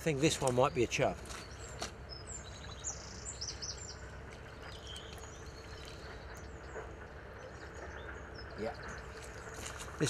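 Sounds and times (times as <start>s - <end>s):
low steady rumble: 0.0s - 10.0s
small birds chirping: 0.0s - 10.0s.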